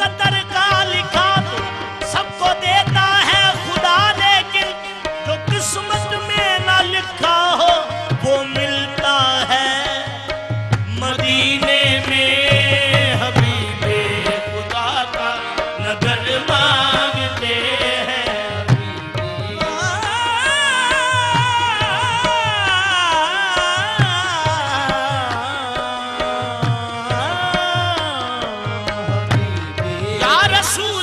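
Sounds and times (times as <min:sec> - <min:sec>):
harmonium notes: 0:00.0 - 0:31.0
men singing: 0:00.0 - 0:31.0
tabla strokes: 0:00.0 - 0:31.0.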